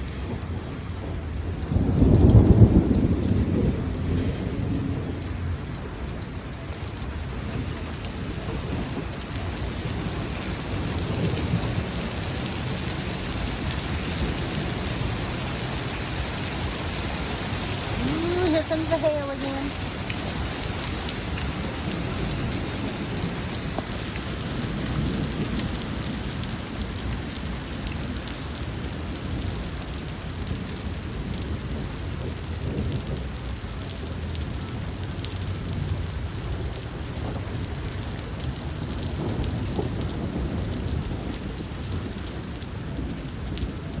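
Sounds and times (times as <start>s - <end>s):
hail and rain pelting: 0.0s - 44.0s.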